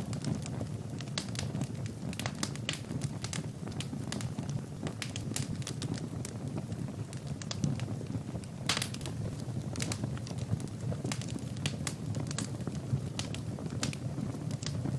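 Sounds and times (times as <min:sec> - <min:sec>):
logs crackling and popping: 0:00.0 - 0:14.9
rumble of flames: 0:00.0 - 0:14.9.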